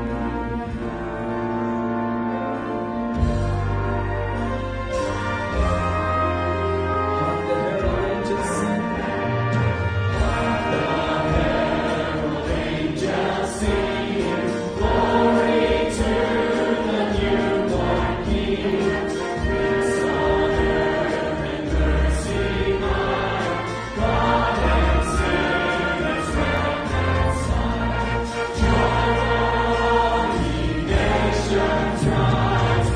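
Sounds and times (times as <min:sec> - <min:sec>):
choir singing a carol: 0:00.0 - 0:32.9
instrumental accompaniment: 0:00.0 - 0:32.9.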